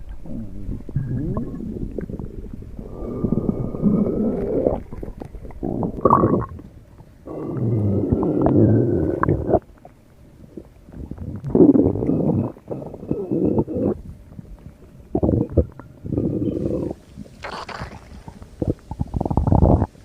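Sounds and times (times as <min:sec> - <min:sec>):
stomach gurgling rumbles: 0:00.0 - 0:20.0.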